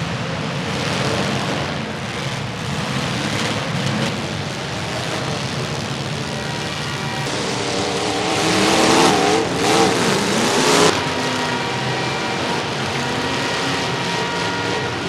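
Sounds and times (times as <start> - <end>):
car engines revving: 0.0 - 15.0
loud rushing roar: 0.0 - 15.0.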